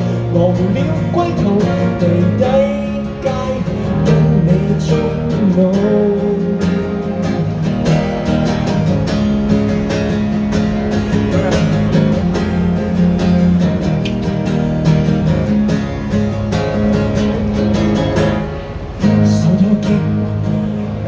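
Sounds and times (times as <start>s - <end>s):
acoustic guitars strumming: 0.0s - 21.0s.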